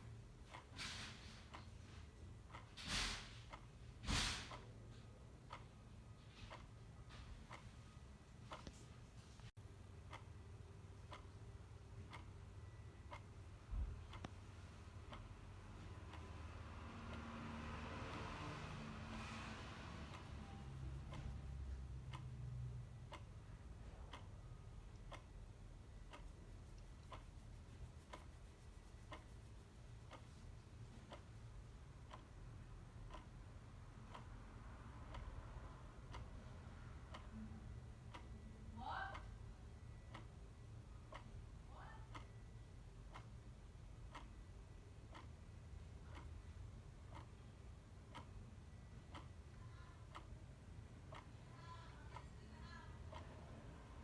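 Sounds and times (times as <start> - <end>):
clock ticking: 0.0 - 8.9, 9.5 - 54.0
low steady hum: 4.8 - 54.0.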